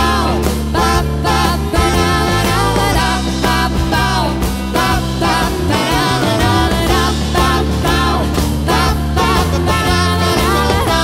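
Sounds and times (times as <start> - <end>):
acoustic guitars: 0.0 - 11.0
drum kit: 0.0 - 11.0
electric bass: 0.0 - 11.0
person singing: 0.0 - 11.0.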